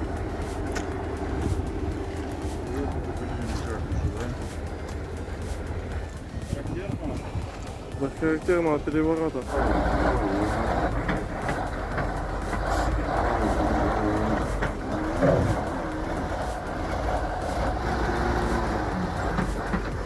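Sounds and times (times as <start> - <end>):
heavy truck engine rumbling: 0.0 - 20.0.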